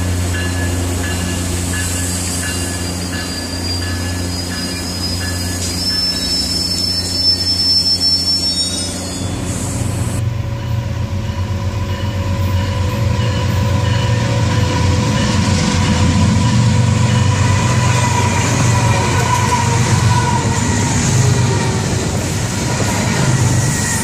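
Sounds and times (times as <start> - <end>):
diesel locomotive engine rumble: 0.0 - 24.0
train wheel and rail noise: 0.0 - 24.0.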